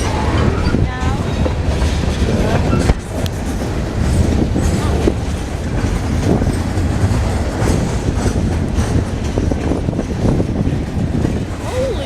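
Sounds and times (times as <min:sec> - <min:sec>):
freight train rumbling past: 0:00.0 - 0:12.0
wheels clattering over rail joints: 0:00.0 - 0:12.0.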